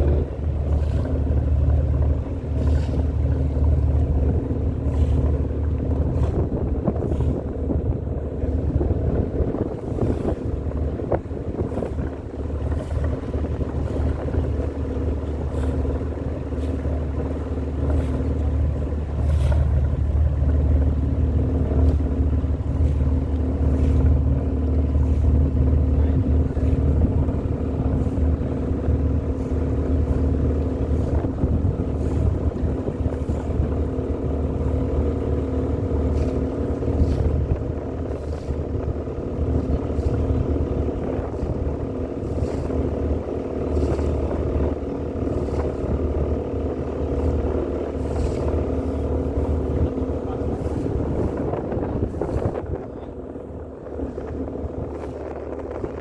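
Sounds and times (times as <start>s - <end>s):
motor boat engine droning: 0.0s - 56.0s.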